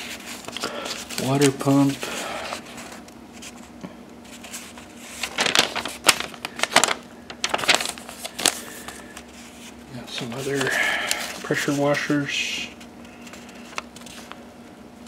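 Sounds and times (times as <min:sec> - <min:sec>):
paper pages rustling: 0:00.0 - 0:14.4.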